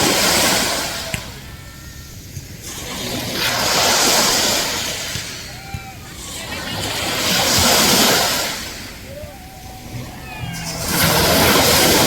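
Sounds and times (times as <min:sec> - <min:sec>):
ocean waves breaking on shore: 0:00.0 - 0:12.0.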